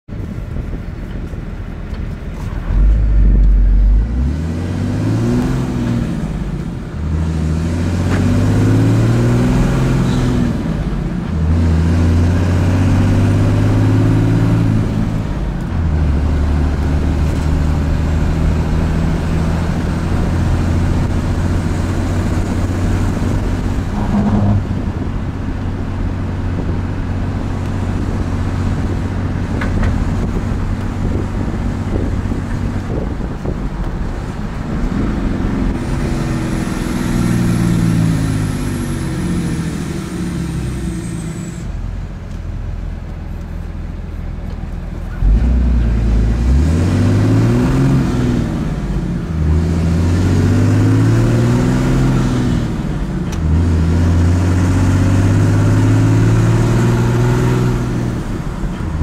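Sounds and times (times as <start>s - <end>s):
diesel truck engine accelerating: 0.1s - 59.0s.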